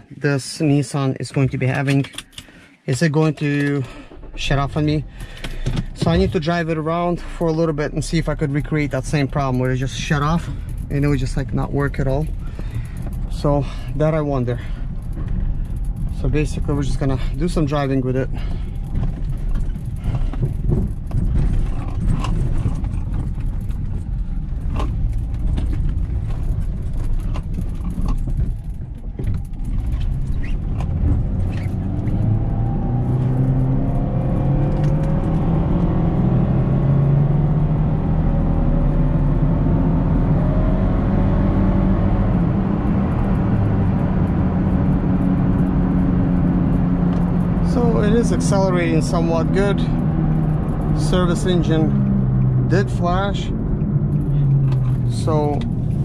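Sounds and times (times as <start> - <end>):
road noise: 0.0 - 56.0
car engine accelerating: 3.8 - 56.0.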